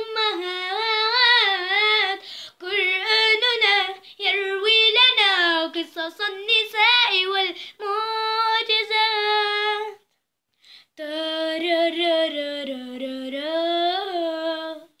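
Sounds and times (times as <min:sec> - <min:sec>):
girl singing unaccompanied: 0:00.0 - 0:10.2, 0:10.8 - 0:15.0.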